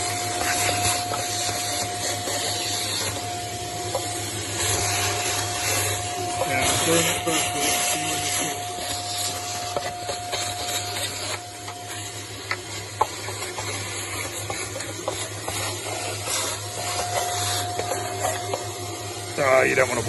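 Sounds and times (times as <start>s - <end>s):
vacuum cleaner whining: 0.0s - 20.0s.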